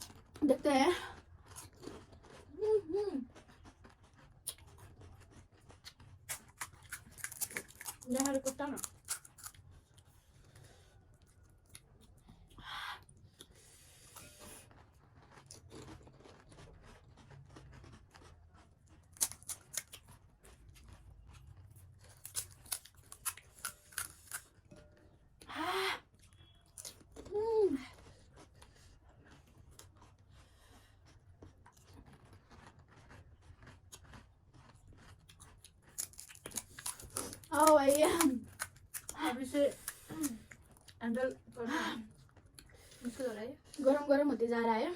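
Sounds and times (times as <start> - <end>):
crisp shells cracking and chewed: 0.0 - 0.5, 1.1 - 25.5, 26.1 - 41.5, 42.1 - 43.0.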